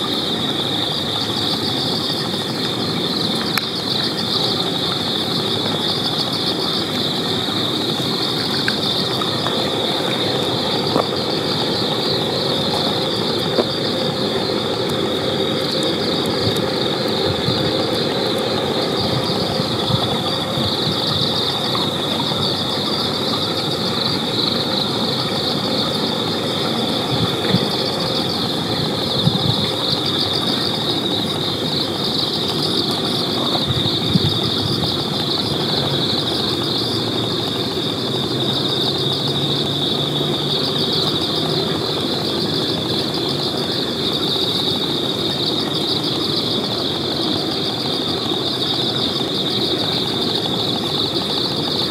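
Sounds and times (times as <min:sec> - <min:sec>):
crickets chirring: 0:00.0 - 0:51.9.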